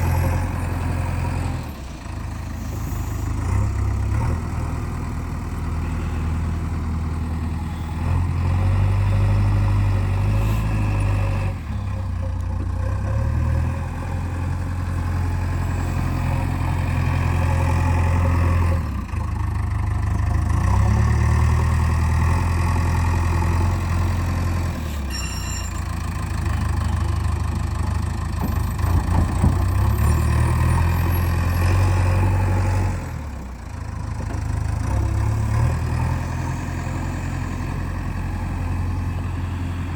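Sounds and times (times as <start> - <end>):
backhoe diesel engine droning: 0.0 - 39.9.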